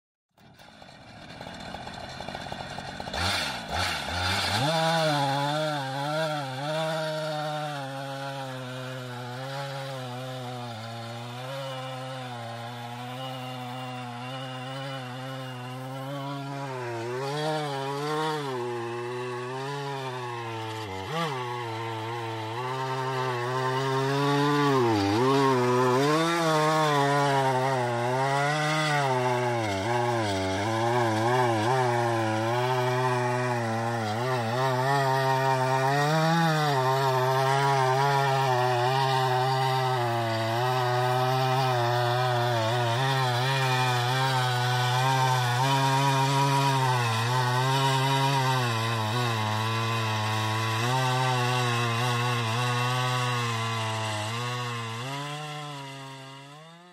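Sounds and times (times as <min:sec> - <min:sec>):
chainsaw cutting log: 0:00.4 - 0:56.9.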